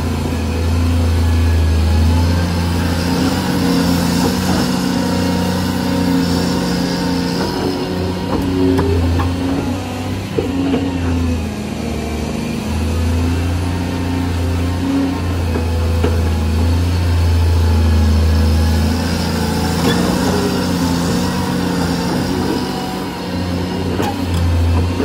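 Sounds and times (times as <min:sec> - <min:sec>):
excavator diesel engine under load: 0:00.0 - 0:25.0.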